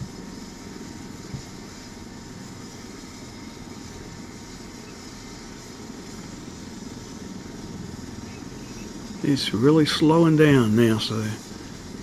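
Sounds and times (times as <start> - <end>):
helicopter engines and rotor: 0.0 - 12.0.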